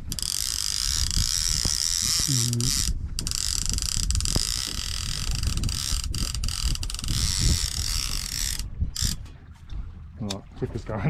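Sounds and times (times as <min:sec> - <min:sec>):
fishing reel drag clicking: 0:00.0 - 0:09.2
wind on microphone: 0:00.0 - 0:11.0.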